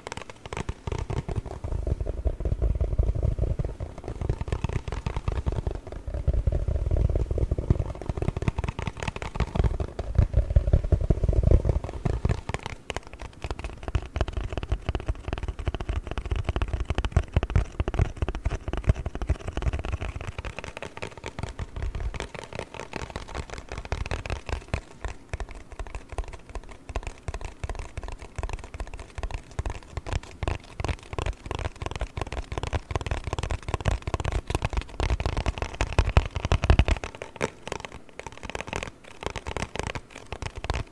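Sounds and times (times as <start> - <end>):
cardboard box tapped and scratched: 0.0 - 40.9.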